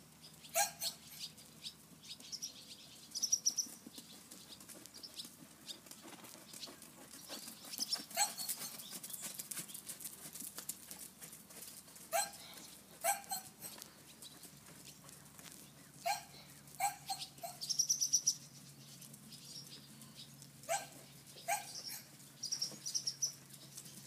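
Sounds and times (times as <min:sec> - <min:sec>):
small birds chirping: 0:00.1 - 0:10.4, 0:11.9 - 0:24.0.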